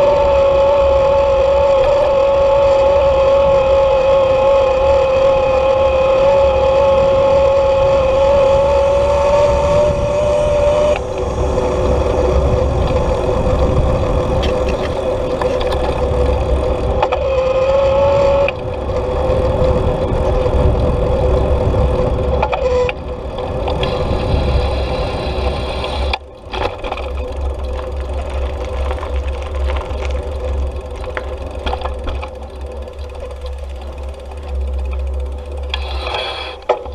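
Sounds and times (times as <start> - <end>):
steady mechanical whine: 0.0 - 36.9
wind rumbling on microphone: 0.0 - 36.9.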